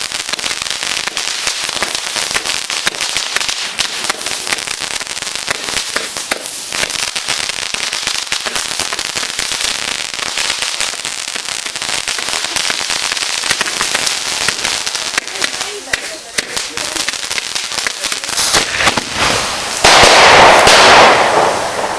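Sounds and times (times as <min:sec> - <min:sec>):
fireworks crackling and cracking: 0:00.0 - 0:21.9.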